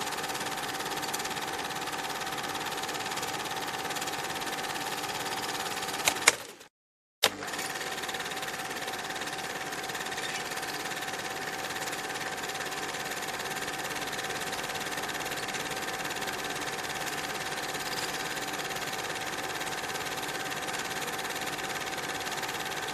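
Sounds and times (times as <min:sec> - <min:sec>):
small machine whirring: 0:00.0 - 0:22.9.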